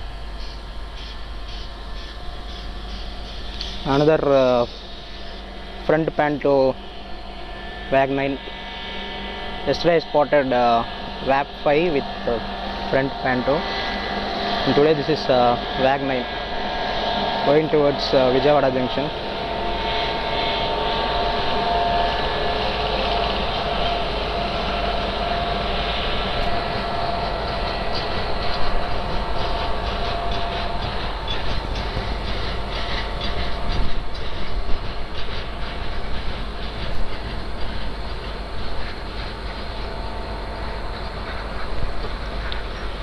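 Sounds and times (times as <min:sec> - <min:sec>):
electric locomotive whine: 0:00.0 - 0:43.0.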